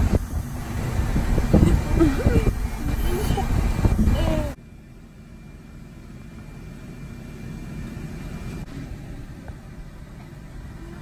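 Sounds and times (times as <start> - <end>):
van engine rumble: 0.0 - 11.0.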